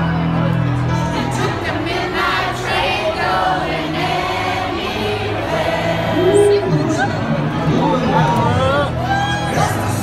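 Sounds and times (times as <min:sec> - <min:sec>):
music playing: 0:00.0 - 0:10.0
crowd singing along: 0:00.7 - 0:08.7.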